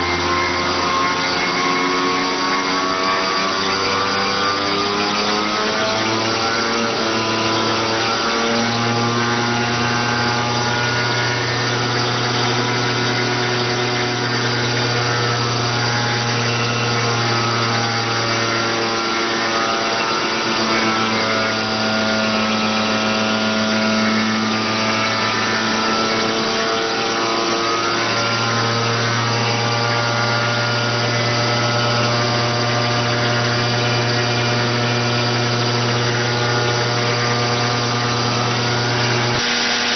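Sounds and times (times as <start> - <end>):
scooter engine at high revs: 0.0 - 39.9.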